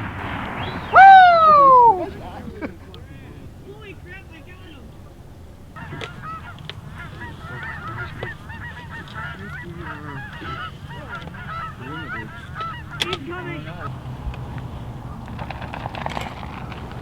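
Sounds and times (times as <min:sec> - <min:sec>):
geese honking and clucking: 0:00.0 - 0:17.0.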